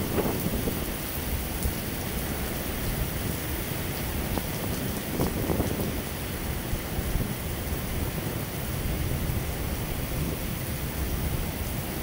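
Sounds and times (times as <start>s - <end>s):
heavy rain on asphalt: 0.0s - 12.0s.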